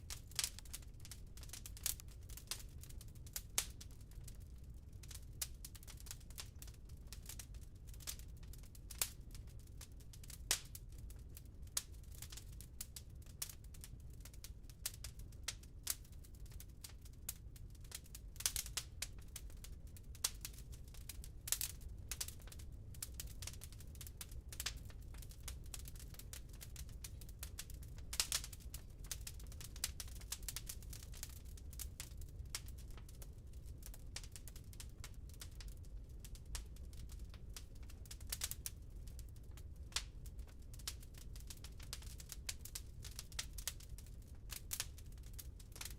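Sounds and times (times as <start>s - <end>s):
low steady fire rumble: 0.0s - 45.9s
wood fire crackling and popping: 0.0s - 45.9s.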